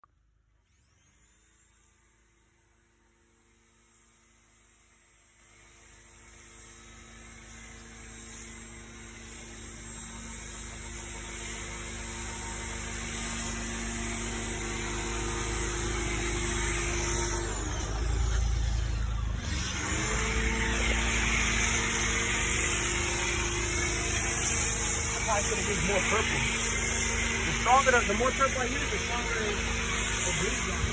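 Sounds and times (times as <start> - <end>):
car wash machinery motor hum: 5.7 - 30.9
rising motor whine: 5.8 - 30.9.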